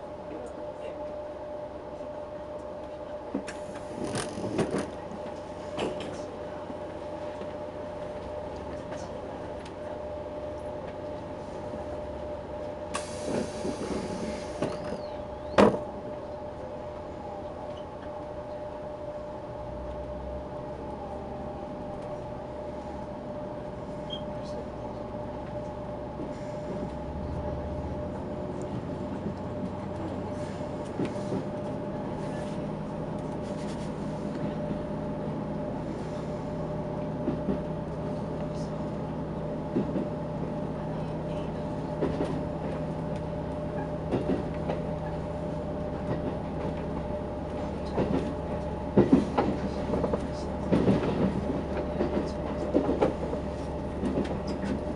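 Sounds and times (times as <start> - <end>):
train engine and running hum: 0.0 - 54.9
rail joint clicks: 2.6 - 10.0, 10.6 - 16.4, 17.6 - 19.2, 21.8 - 22.4, 23.6 - 24.7, 25.3 - 34.8, 35.4 - 54.9.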